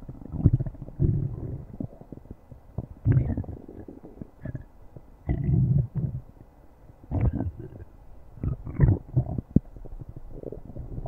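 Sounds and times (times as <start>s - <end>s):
stomach growling: 0.0s - 6.4s, 7.0s - 11.0s.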